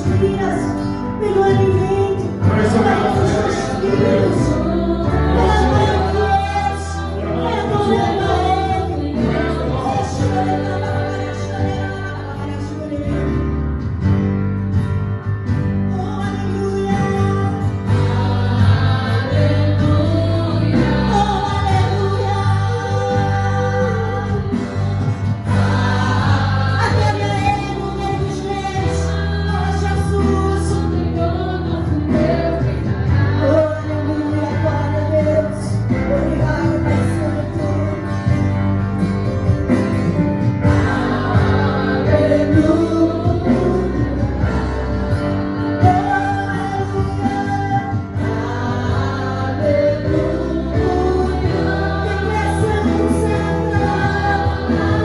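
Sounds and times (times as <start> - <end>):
acoustic guitar: 0.0 - 55.0
keyboard: 0.0 - 55.0
low bass notes: 0.0 - 55.0
singers singing together: 1.3 - 13.4, 16.4 - 38.4, 40.5 - 55.0.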